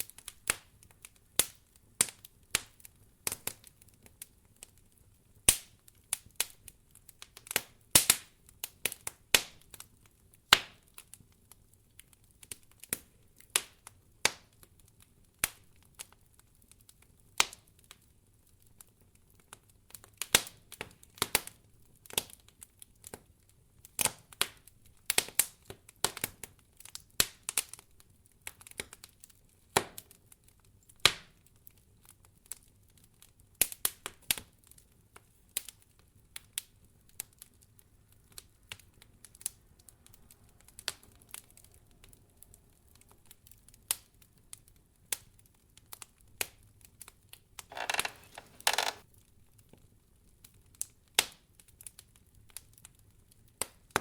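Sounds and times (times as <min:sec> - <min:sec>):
wood fire crackling: 0:00.0 - 0:49.0, 0:50.4 - 0:54.0.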